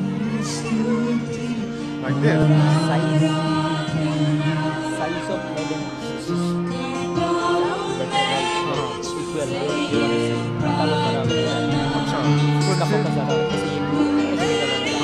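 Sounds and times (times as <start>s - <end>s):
acoustic guitar: 0.0s - 15.0s
held keyboard chords: 0.0s - 15.0s
voices singing: 0.0s - 15.0s.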